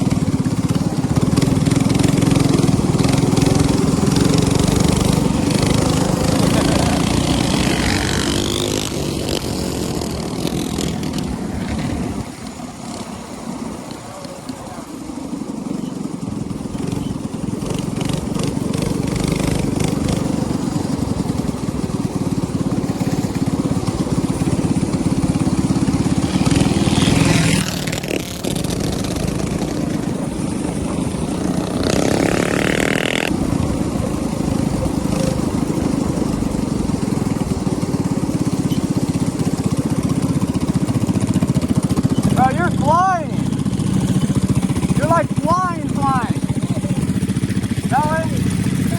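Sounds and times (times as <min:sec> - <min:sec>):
minibike engine running: 0:00.0 - 0:48.9.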